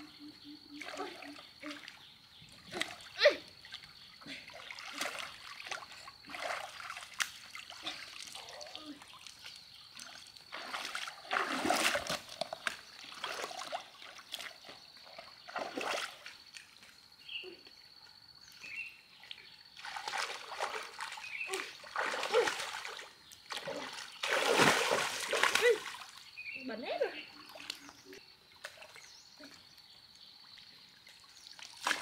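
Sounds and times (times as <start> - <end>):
muddy water splashing: 0.0 - 17.7, 18.4 - 32.0.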